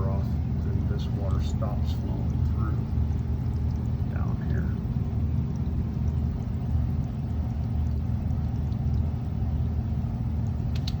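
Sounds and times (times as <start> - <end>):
water rushing: 0.0 - 9.8.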